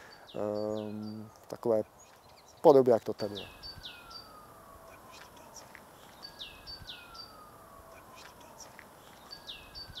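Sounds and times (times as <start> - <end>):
bird calling: 0.0 - 10.0
low hiss: 0.0 - 10.0.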